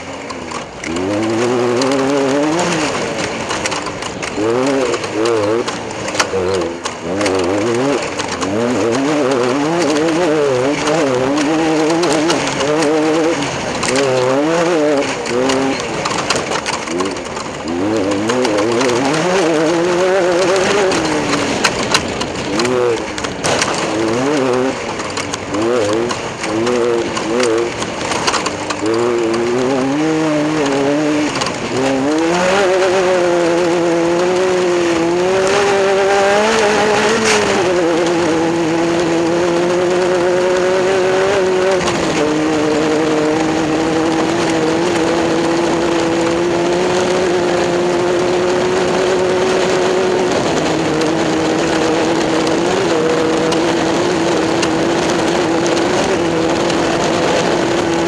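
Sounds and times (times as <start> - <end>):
racing engine at high revs: 0.0 - 58.0.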